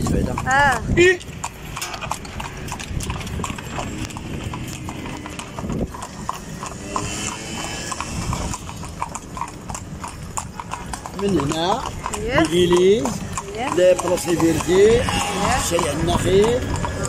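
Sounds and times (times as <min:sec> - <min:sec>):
horse hooves on asphalt: 0:00.0 - 0:17.0.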